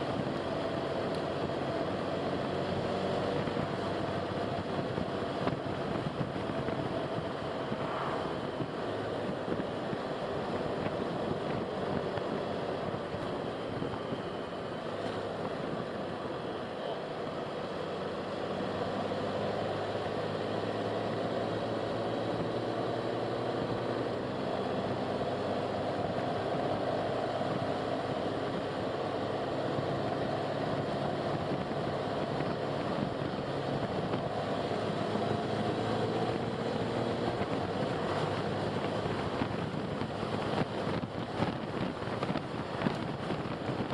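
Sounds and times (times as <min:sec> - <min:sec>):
faint engine hum: 0:00.0 - 0:43.9
tyre and road noise: 0:00.0 - 0:43.9.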